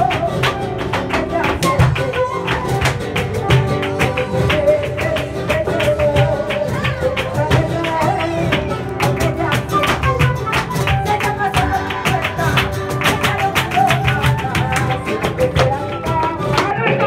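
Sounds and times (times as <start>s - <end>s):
acoustic guitar: 0.0s - 17.0s
rhythmic hand clapping: 0.0s - 17.0s.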